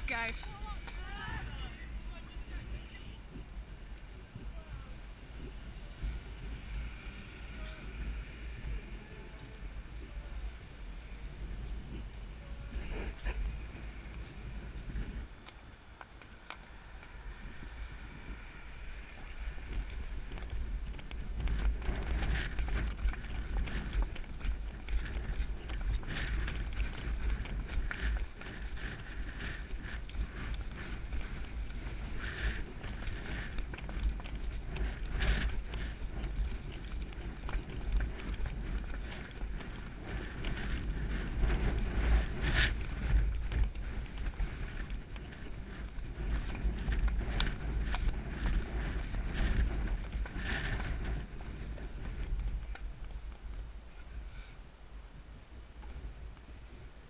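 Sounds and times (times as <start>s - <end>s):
pony hoofbeats on dirt track: 0.0s - 57.0s
wind rumble on microphone: 0.0s - 57.0s.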